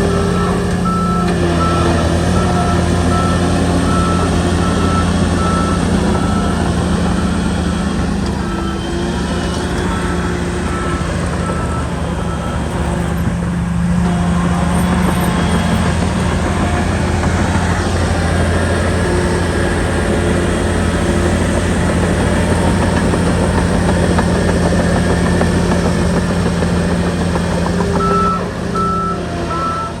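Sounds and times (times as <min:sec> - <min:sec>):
reversing alarm beeping: 0:00.0 - 0:24.4, 0:25.0 - 0:30.0
bulldozer diesel engine running: 0:00.0 - 0:30.0.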